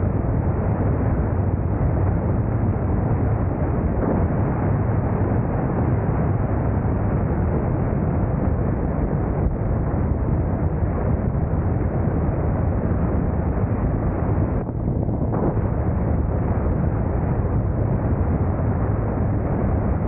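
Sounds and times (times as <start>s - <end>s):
motorcycle engine drone: 0.0s - 20.0s
wind rushing over microphone: 0.0s - 20.0s.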